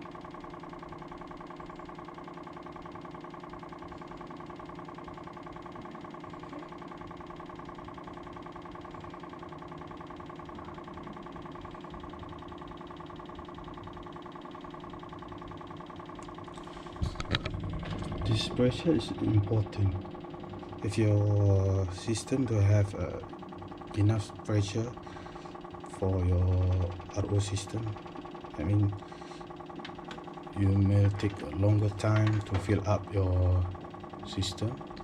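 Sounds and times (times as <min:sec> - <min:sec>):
water pump motor hum: 0:00.0 - 0:35.0.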